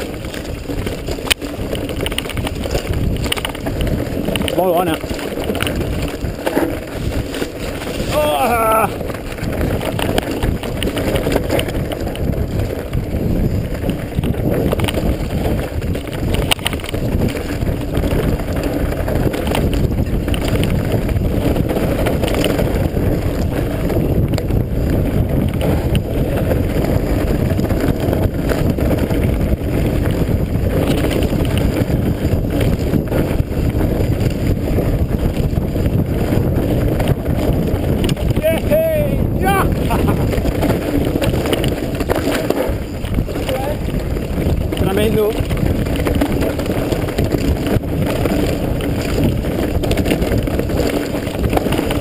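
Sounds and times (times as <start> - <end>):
bike knocking and rattling: 0.0 - 52.0
tyres rumbling on dirt trail: 0.0 - 52.0
wind buffeting microphone: 0.0 - 52.0.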